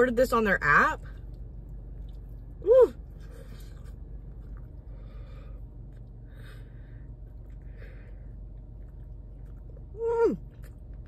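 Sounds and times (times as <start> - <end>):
steady low hum: 0.0 - 11.0
muffled chewing: 1.0 - 11.0.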